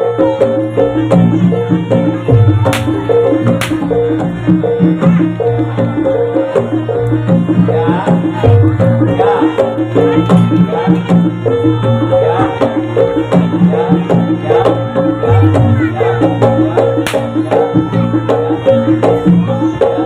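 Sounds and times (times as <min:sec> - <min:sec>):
metallophones playing: 0:00.0 - 0:19.8
hand drums: 0:00.2 - 0:20.0.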